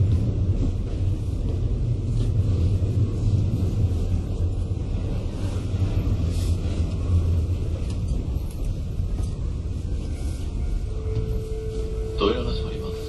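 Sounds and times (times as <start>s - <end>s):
train equipment low rumble: 0.0s - 13.0s.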